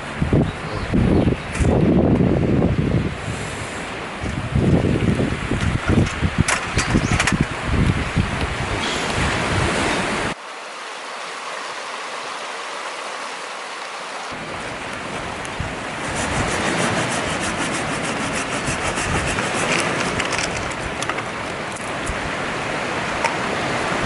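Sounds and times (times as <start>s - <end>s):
wind rushing over microphone: 0.0s - 10.4s, 14.3s - 24.0s.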